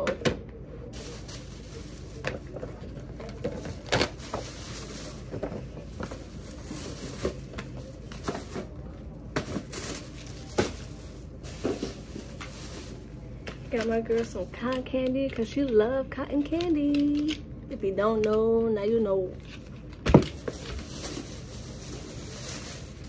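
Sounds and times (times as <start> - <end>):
shopping items rustling: 0.8 - 17.3, 19.2 - 23.0.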